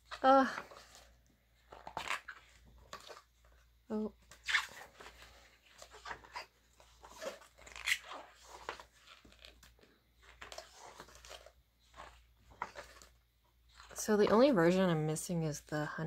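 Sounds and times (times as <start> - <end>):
pages being turned: 0.0 - 14.5.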